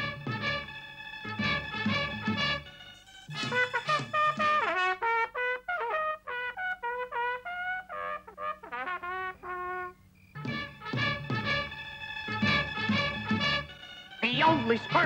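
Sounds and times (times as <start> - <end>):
trumpet solo melody: 0.0 - 15.0.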